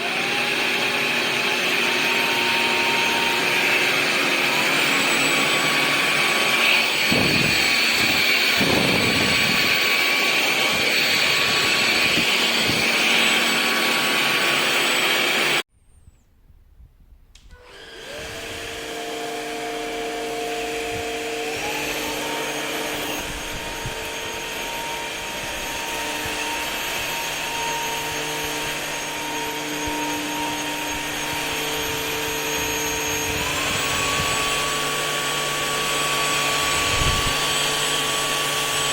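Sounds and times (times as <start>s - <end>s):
stick vacuum whining: 0.0s - 15.6s, 17.4s - 38.9s.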